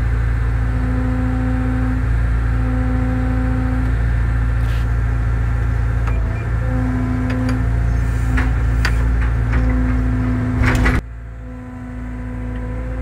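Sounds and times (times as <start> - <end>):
humming tone: 0.0 - 4.4, 6.0 - 13.0
excavator diesel engine rumbling: 0.0 - 13.0.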